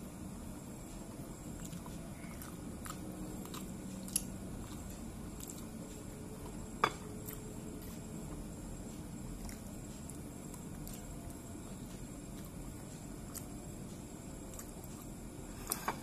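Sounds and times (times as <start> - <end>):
low background hum: 0.0 - 16.0
soft chewing: 0.9 - 15.8.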